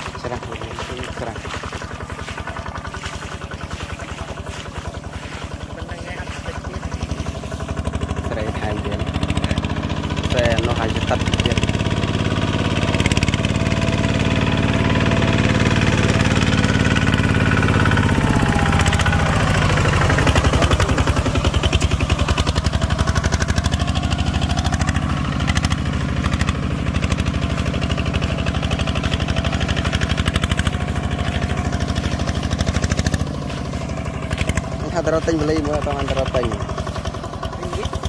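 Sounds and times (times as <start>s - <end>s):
farm machine engine running: 0.0s - 38.0s.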